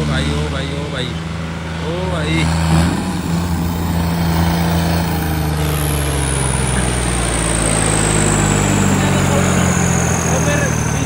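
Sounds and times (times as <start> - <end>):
vehicle engine running loudly: 0.0 - 11.0.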